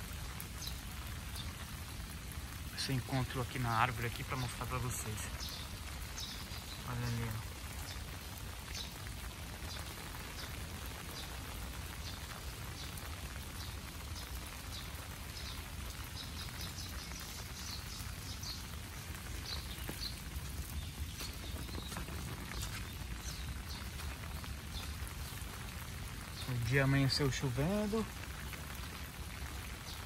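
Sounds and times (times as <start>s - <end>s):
rain falling on leaves and grass: 0.0s - 30.0s.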